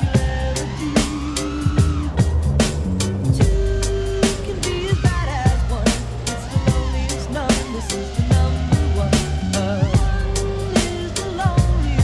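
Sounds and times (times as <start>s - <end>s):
background music with drums: 0.0s - 12.0s.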